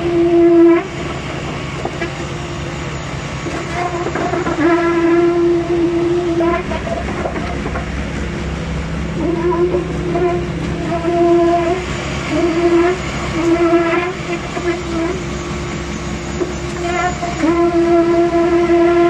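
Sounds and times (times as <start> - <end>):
diesel engine drone: 0.0 - 19.0
pump whine: 0.0 - 19.0.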